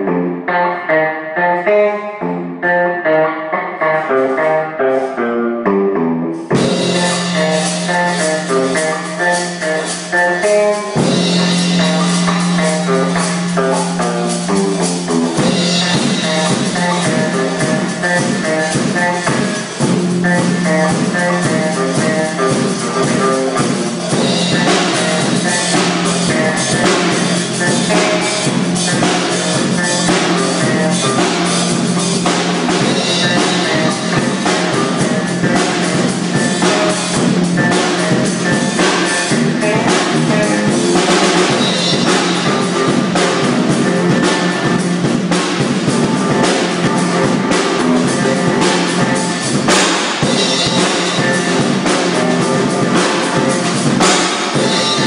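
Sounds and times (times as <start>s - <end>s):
guitar: 0.0s - 55.0s
band playing a song: 6.4s - 55.0s
drum kit: 6.4s - 55.0s.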